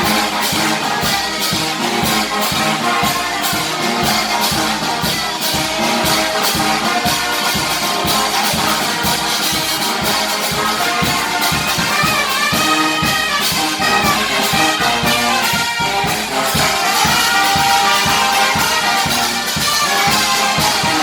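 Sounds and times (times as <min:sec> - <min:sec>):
brass horns playing melody: 0:00.0 - 0:21.0
steady drum beat: 0:00.0 - 0:21.0.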